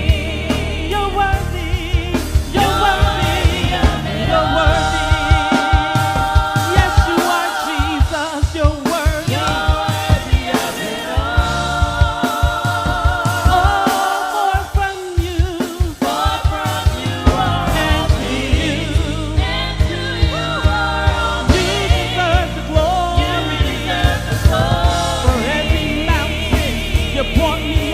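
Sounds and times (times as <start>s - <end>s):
drums bass and keyboard: 0.0s - 27.9s
voices singing gospel song: 0.0s - 27.9s.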